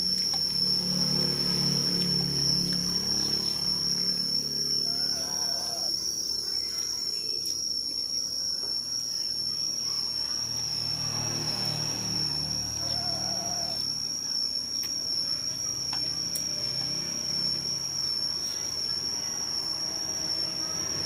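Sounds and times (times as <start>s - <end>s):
insect chirring: 0.0s - 21.0s.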